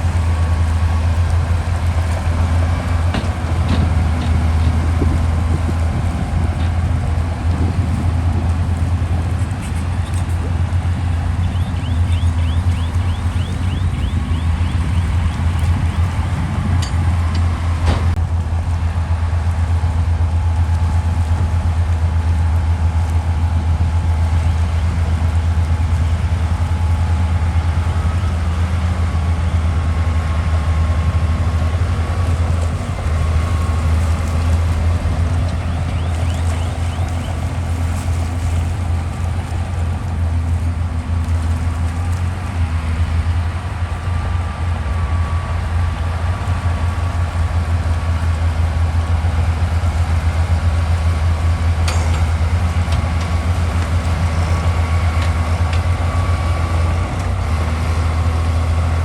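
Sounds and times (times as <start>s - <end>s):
diesel machinery engine hum: 0.0s - 59.0s.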